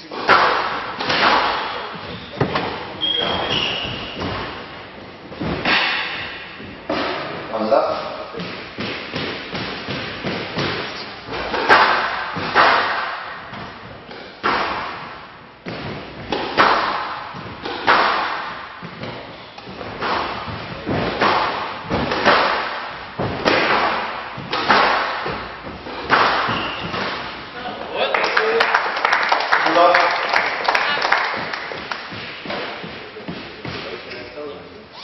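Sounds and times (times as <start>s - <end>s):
squash ball hits echoing: 0.0s - 28.0s, 30.5s - 34.2s.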